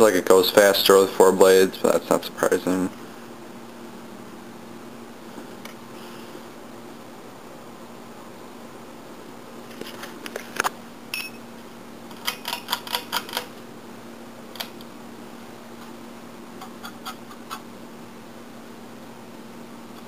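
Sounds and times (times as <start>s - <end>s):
ceiling fan motor humming: 0.0s - 20.0s.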